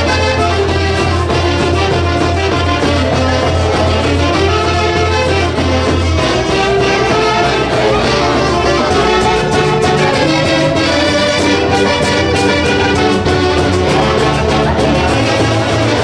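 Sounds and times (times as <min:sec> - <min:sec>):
folk orchestra with horns: 0:00.0 - 0:16.0
steady bass line: 0:00.0 - 0:16.0.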